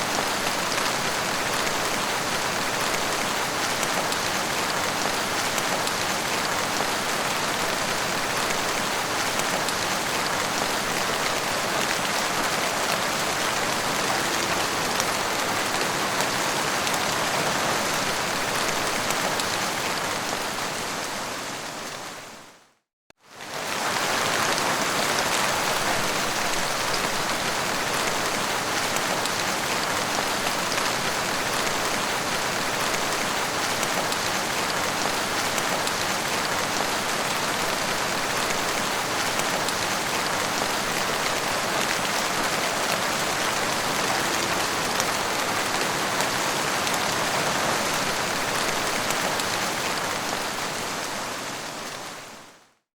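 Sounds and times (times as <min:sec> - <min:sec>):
heavy rain: 0:00.0 - 0:22.6, 0:23.2 - 0:52.7.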